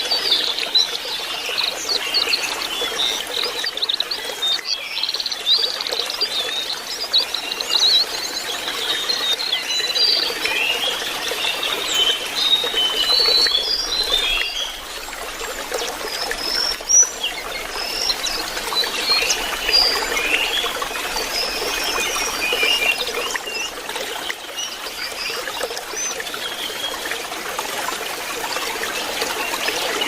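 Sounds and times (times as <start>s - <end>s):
bird song twittering and whistling: 0.0s - 15.0s, 15.6s - 27.0s
trickling water: 0.0s - 30.0s.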